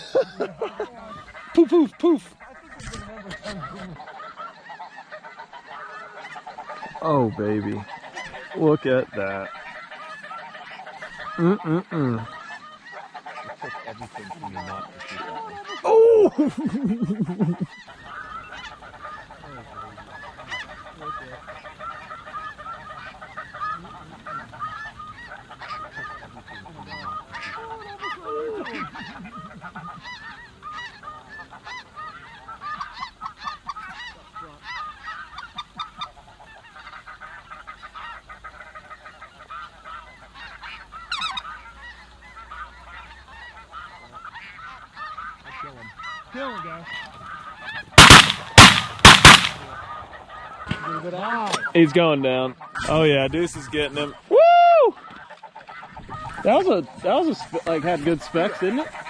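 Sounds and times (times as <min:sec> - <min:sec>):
snow geese honking: 0:00.0 - 0:59.0.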